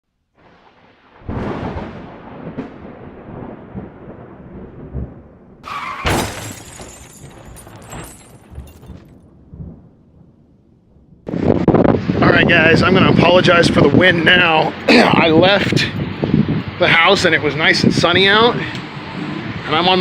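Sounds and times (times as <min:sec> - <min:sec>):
thunder rumbling and cracking: 0:00.3 - 0:19.9.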